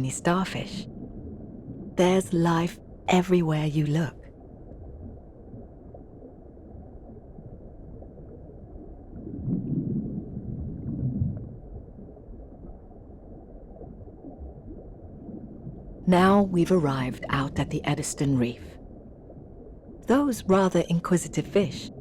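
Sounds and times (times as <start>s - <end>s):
muffled underwater rumble: 0.0s - 22.0s.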